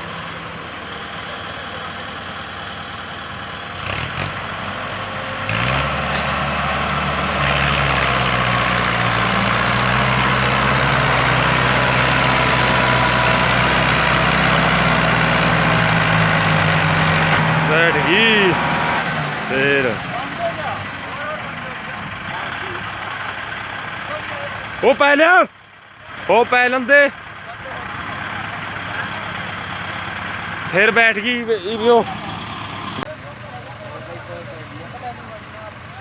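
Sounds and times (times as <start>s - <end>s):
tractor diesel engine revving: 0.0s - 36.0s.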